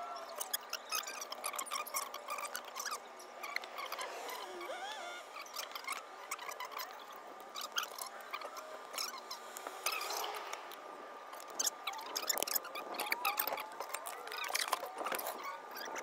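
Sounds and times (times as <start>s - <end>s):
sped-up squeaky chatter: 0.0s - 16.0s.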